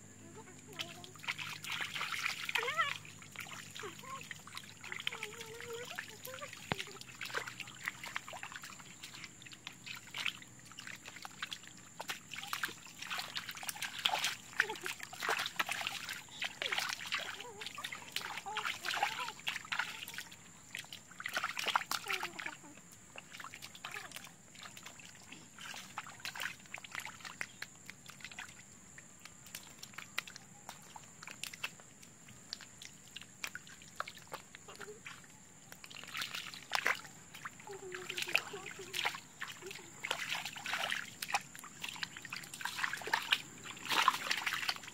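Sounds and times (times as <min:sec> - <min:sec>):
water dripping: 0:00.3 - 0:44.9
hands sloshing in muddy water: 0:00.4 - 0:44.9.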